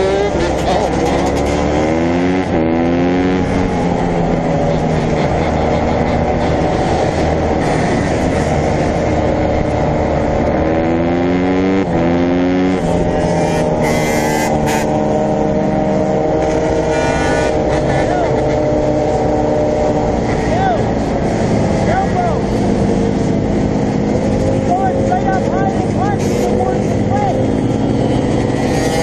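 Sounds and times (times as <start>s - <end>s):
dirt bike engine revving: 0.0s - 29.0s
dirt bike engines running: 0.0s - 29.0s
steady rushing noise: 0.0s - 29.0s.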